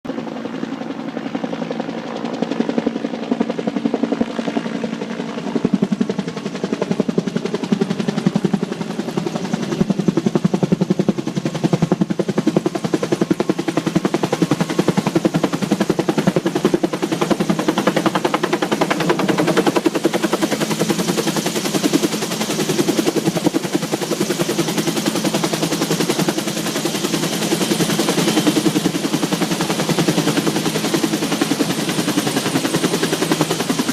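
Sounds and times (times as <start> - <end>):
helicopter engine whine: 0.1 - 33.9
helicopter rotor beating: 0.1 - 33.9.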